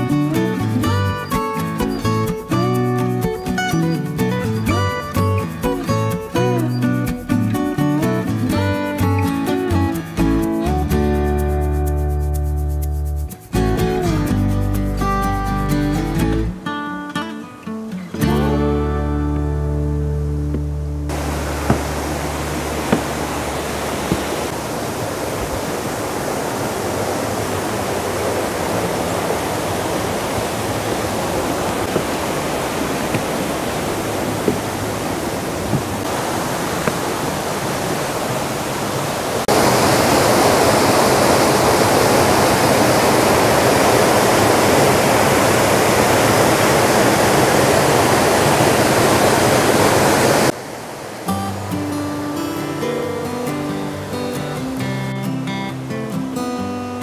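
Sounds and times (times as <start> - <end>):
rushing stream water: 0.0 - 12.0, 18.2 - 57.0.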